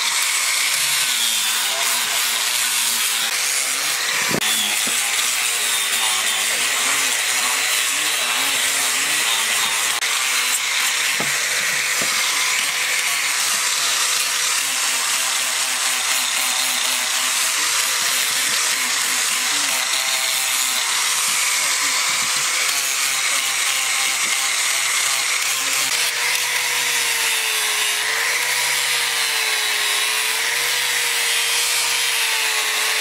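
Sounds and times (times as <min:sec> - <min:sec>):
angle grinder motor whine: 0:00.0 - 0:33.0.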